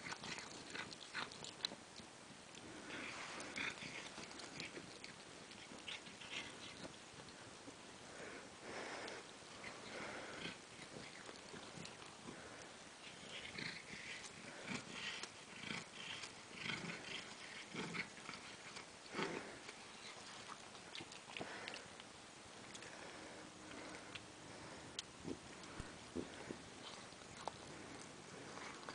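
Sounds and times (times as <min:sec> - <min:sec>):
cat chewing grass: 0:00.0 - 0:07.7, 0:08.6 - 0:28.9.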